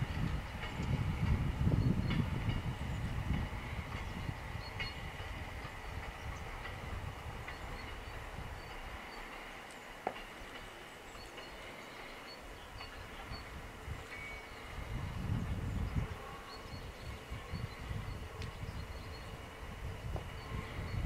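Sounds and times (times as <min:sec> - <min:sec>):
diesel railcar rumbling on rails: 0:00.0 - 0:21.0.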